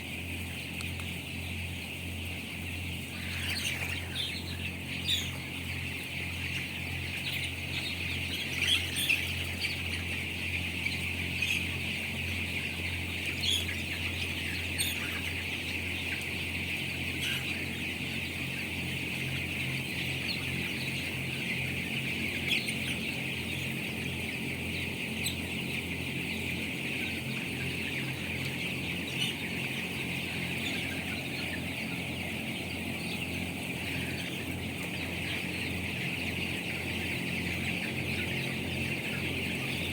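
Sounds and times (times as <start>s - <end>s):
chicks peeping in chorus: 0.0s - 39.9s.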